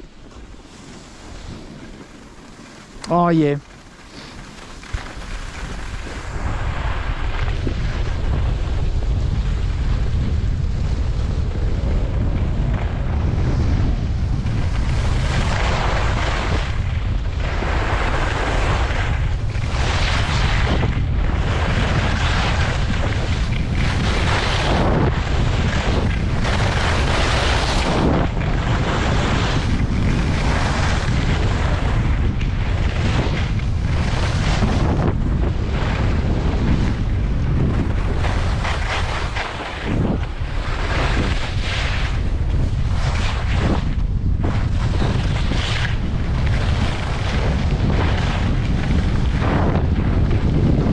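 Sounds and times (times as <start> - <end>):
ski edges scraping snow: 0.0 - 9.0, 14.3 - 50.9
wind buffeting microphone: 0.0 - 50.9.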